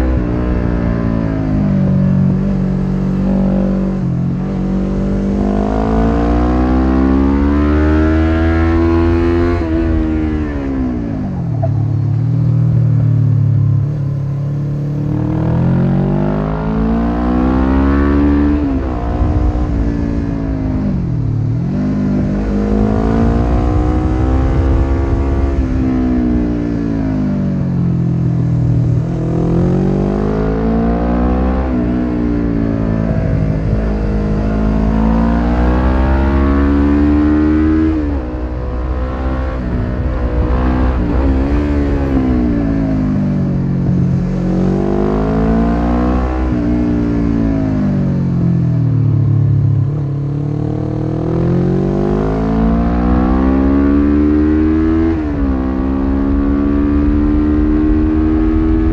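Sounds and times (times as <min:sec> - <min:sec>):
low wind rush: 0:00.0 - 0:58.9
motorcycle engine revving: 0:00.0 - 0:58.9.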